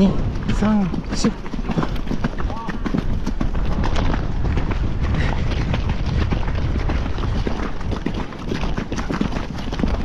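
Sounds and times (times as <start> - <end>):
horse hoofbeats: 0.0 - 10.0
steady low rumble: 0.0 - 10.0.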